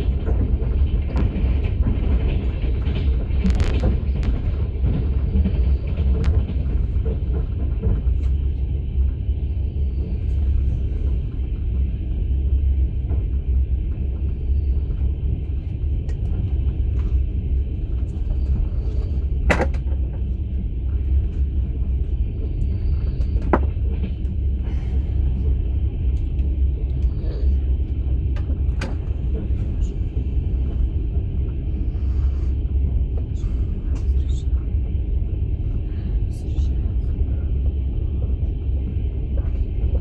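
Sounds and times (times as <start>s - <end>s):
low rumble of moving train: 0.0s - 40.0s.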